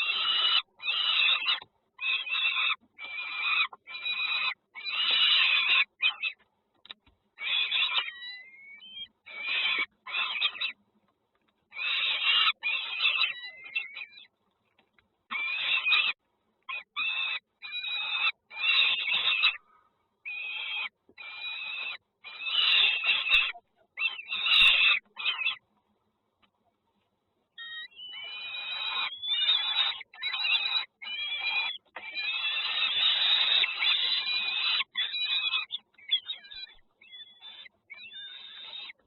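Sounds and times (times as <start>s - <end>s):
nestling birds calling harshly: 0.0s - 10.8s, 11.6s - 25.6s, 27.5s - 39.0s.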